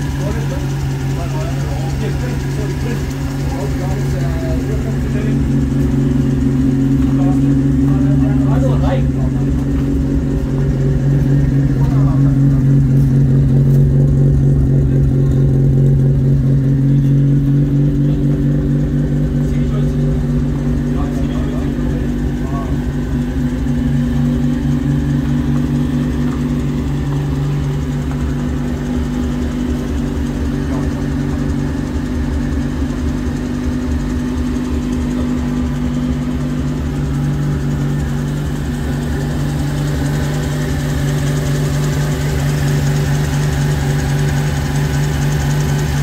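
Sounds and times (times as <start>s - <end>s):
rotary engine idling: 0.0s - 46.0s.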